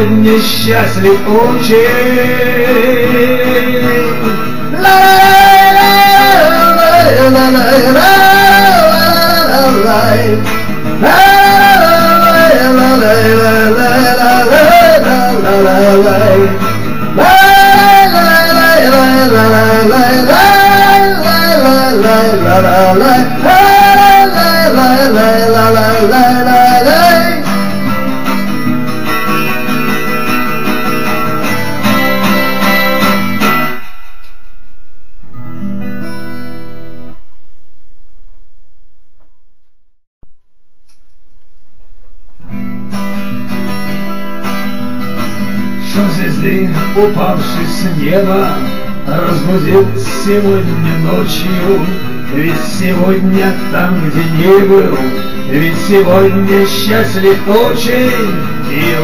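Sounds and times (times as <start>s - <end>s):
song with lead melody and guitar: 0.0s - 34.6s, 35.3s - 37.3s, 42.3s - 59.0s.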